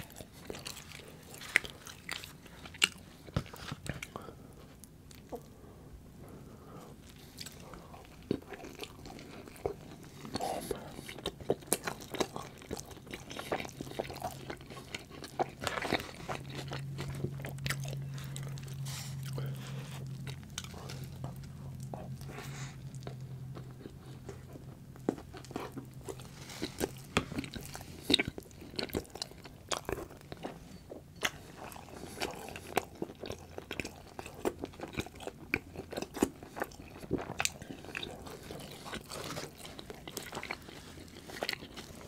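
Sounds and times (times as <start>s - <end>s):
person chewing food: 0.0s - 5.6s, 6.3s - 42.0s.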